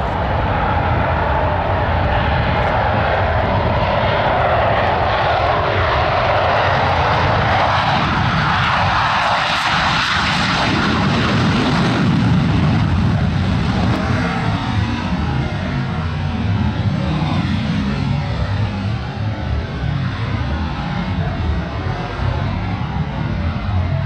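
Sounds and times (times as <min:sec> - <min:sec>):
airplane engine noise: 0:00.0 - 0:24.0
low rumble: 0:00.0 - 0:24.0.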